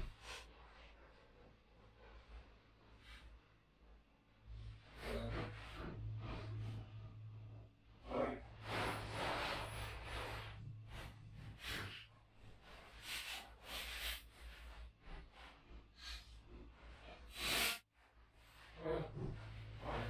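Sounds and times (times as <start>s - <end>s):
steady low hum: 0.8s - 17.3s, 18.4s - 20.0s.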